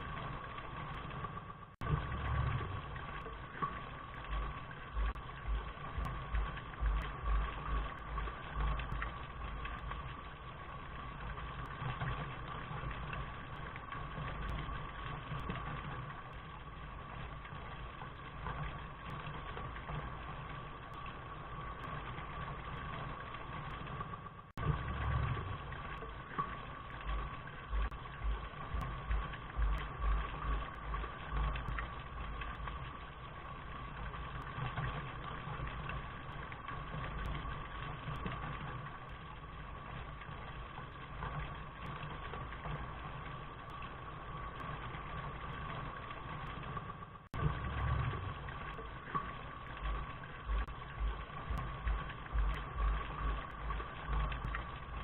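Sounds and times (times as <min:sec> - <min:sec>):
low rumble: 0:00.0 - 0:55.0
steady rain: 0:00.0 - 0:55.0.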